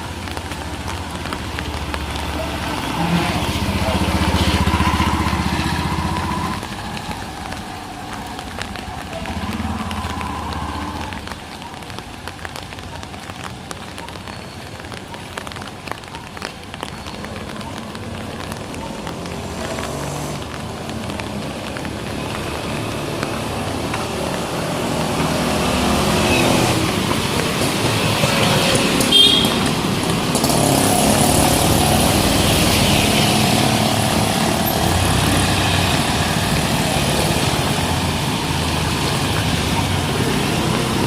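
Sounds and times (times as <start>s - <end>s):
rain on street: 0.0s - 41.0s
vehicles passing: 0.0s - 41.0s.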